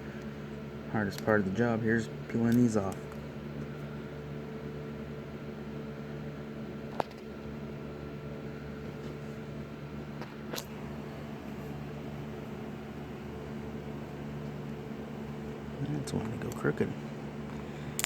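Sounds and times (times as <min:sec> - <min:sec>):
fan or motor humming: 0:00.0 - 0:18.0.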